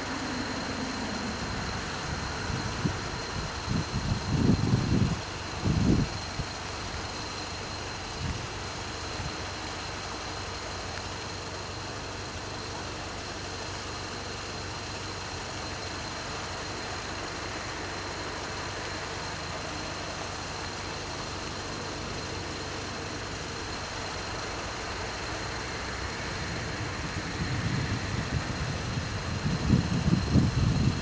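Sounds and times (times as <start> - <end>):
steady low rumble and hiss: 0.0 - 31.0.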